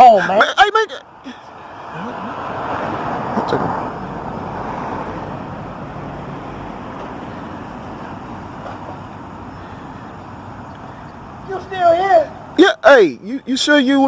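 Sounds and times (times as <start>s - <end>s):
car rushing: 0.0s - 14.0s.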